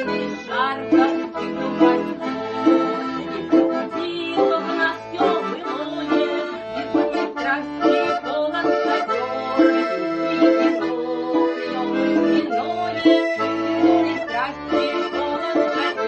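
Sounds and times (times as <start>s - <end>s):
accordion melody with rhythmic bass: 0.0s - 16.0s.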